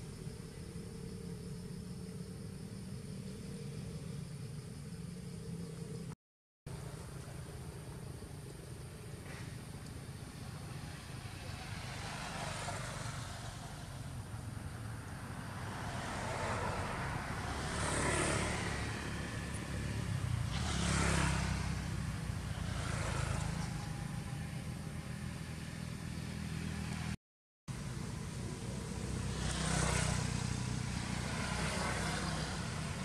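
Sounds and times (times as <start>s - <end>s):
road vehicles passing: 0.0s - 33.0s.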